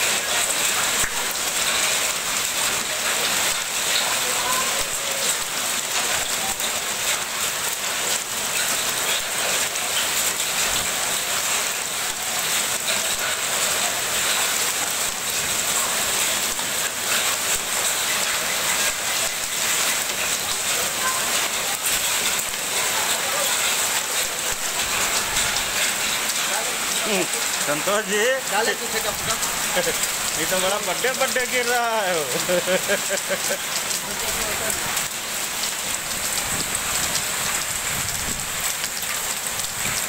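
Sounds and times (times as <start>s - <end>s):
heavy rain and hail falling: 0.0s - 40.0s.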